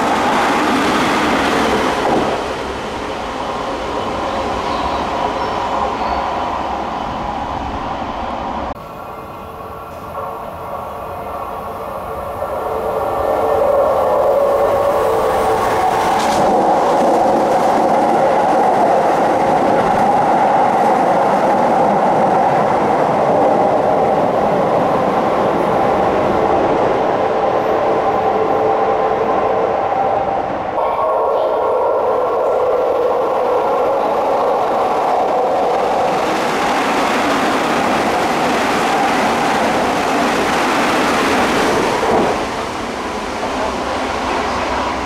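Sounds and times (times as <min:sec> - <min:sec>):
electric trains rushing past: 0:00.0 - 0:45.0.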